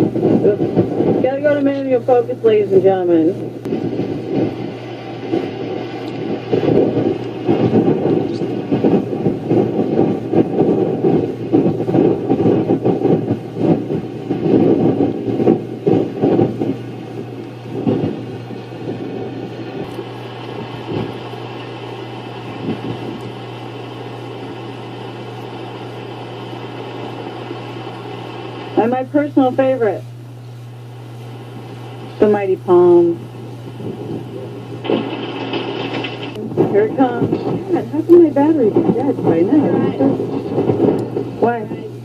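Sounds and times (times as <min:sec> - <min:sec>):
wind buffeting microphone: 0:00.0 - 0:29.7, 0:30.7 - 0:42.0
steady low hum: 0:00.0 - 0:42.0.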